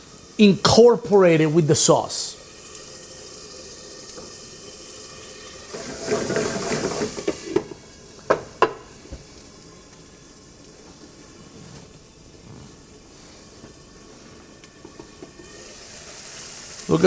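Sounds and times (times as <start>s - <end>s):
tomato sauce sizzling in a pan: 0.0s - 17.0s.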